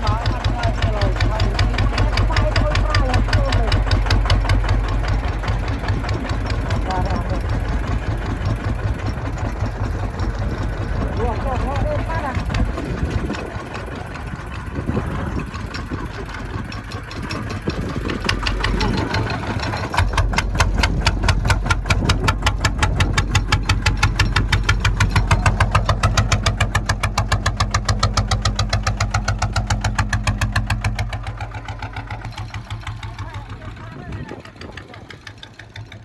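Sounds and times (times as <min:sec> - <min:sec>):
diesel engine chugging: 0:00.0 - 0:36.0.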